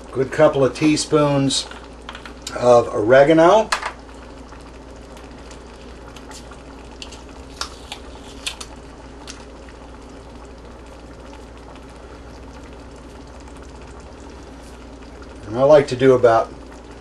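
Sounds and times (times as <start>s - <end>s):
sauce bubbling and popping: 0.0s - 17.0s.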